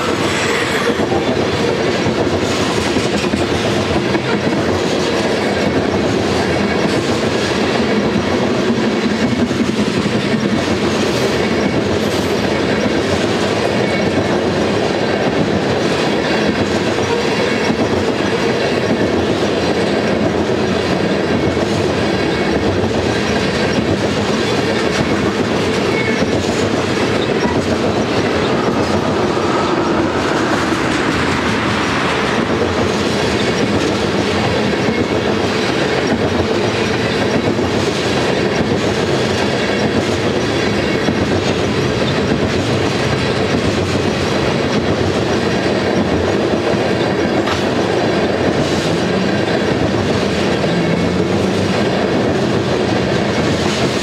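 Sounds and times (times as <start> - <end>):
steel wheels rolling on rail: 0.0 - 54.0.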